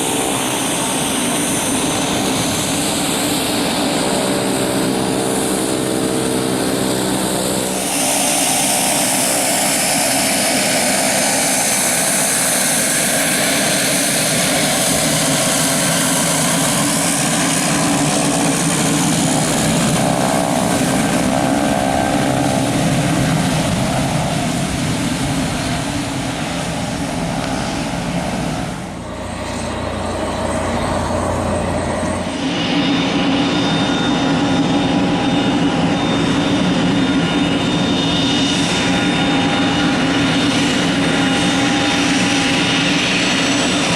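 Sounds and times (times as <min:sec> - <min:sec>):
aircraft engines running: 0:00.0 - 0:43.9.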